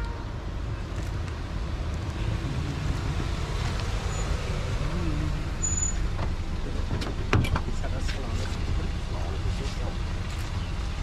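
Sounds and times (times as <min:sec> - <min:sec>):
car driving up and stopping: 0:00.7 - 0:11.0.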